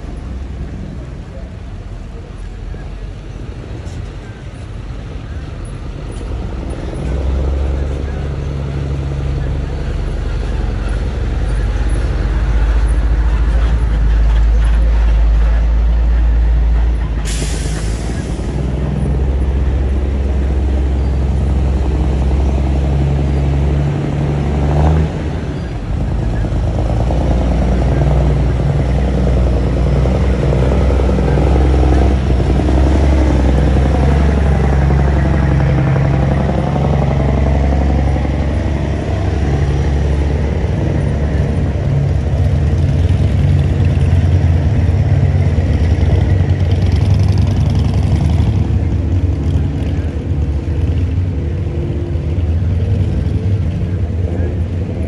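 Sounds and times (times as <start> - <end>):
low traffic engine rumble: 0.0 - 55.0.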